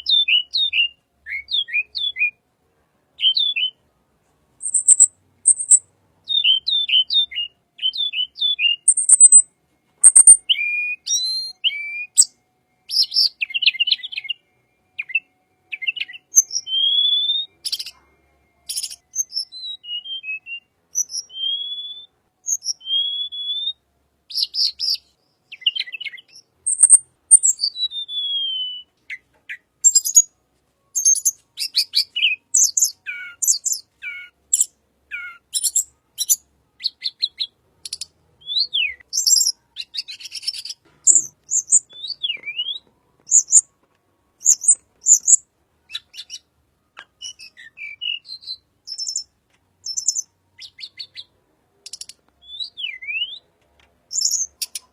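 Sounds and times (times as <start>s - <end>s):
bird singing: 0.0s - 2.4s, 3.2s - 3.8s, 4.6s - 43.8s, 44.4s - 54.9s.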